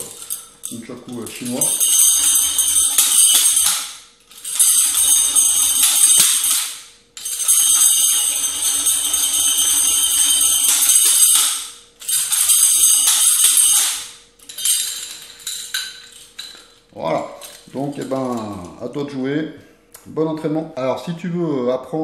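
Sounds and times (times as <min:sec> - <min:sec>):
metal chain jingling and rattling: 0:00.0 - 0:18.8.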